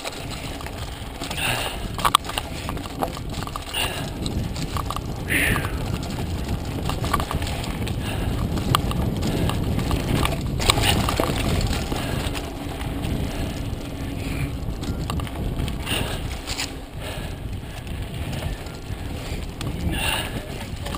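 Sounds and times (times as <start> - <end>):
bike rattling over bumps: 0.0 - 20.9
tyre rumble on dirt: 0.0 - 20.9
wind rush: 0.0 - 20.9.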